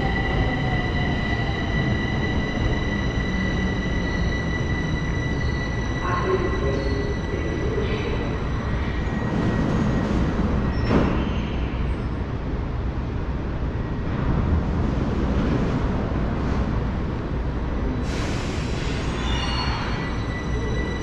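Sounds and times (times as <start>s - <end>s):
low rumble of metro train: 0.0s - 21.0s.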